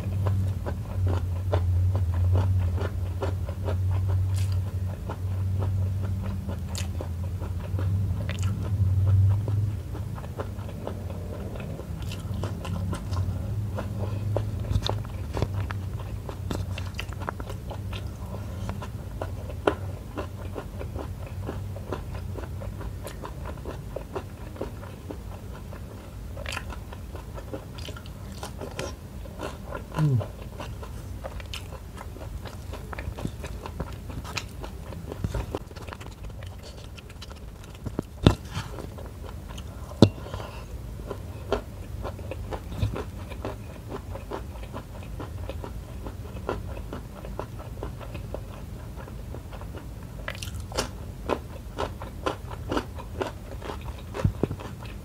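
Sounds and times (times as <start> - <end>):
person biting and chewing: 0.0 - 24.7, 26.4 - 45.6, 49.5 - 55.0.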